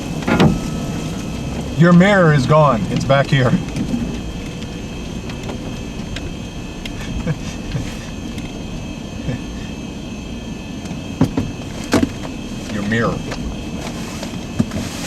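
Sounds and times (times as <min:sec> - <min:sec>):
strong wind through trees: 0:00.0 - 0:14.6.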